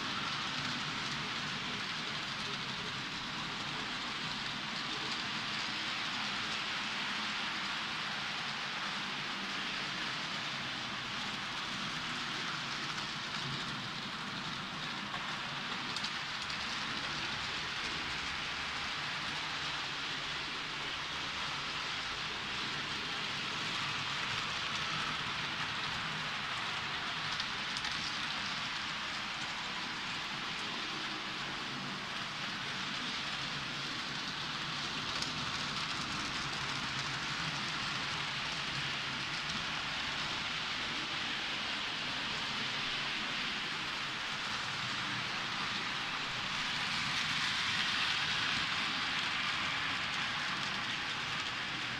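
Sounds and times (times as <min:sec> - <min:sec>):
model train wheels rattling: 0:00.0 - 0:51.9.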